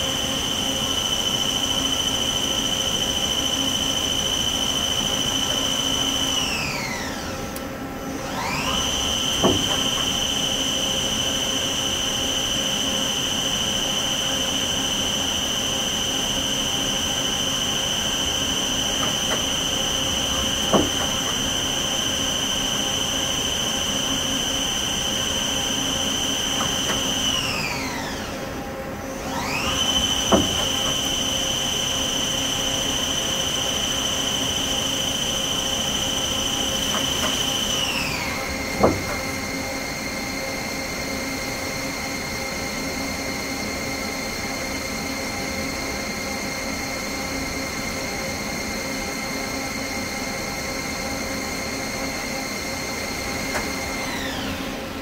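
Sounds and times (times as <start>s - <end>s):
machine spindle whine: 0.0s - 55.0s.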